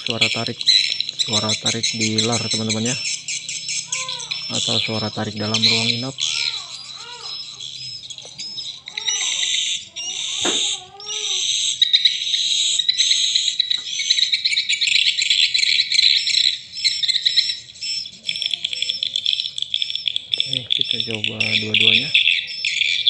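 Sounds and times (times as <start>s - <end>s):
buzzy twittering bird calls: 0.0s - 23.0s.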